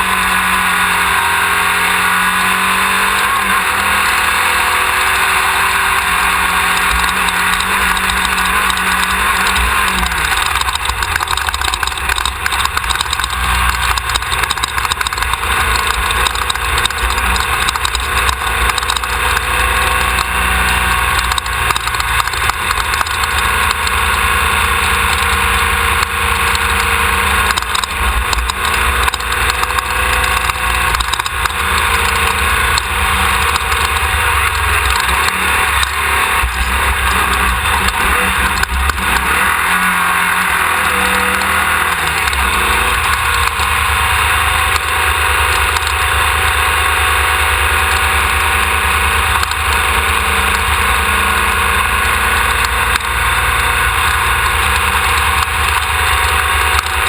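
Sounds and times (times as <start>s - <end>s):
race car engine under load: 0.0s - 57.0s.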